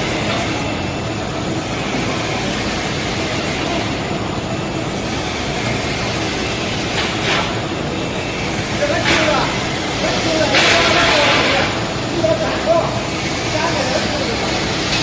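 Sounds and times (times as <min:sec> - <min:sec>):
machinery running: 0:00.0 - 0:15.0.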